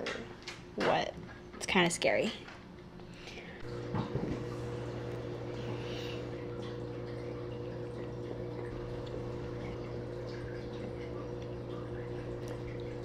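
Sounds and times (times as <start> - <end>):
low hum with constant tones: 0.0 - 13.0.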